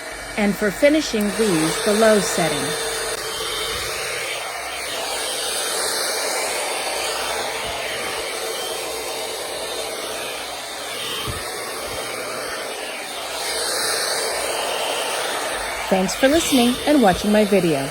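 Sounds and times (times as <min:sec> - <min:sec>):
hair dryer blowing: 0:00.0 - 0:17.9.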